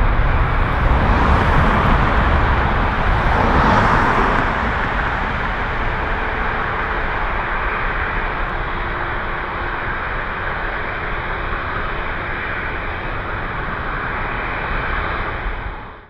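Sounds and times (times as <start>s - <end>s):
jet airliner engines roaring: 0.0s - 16.0s.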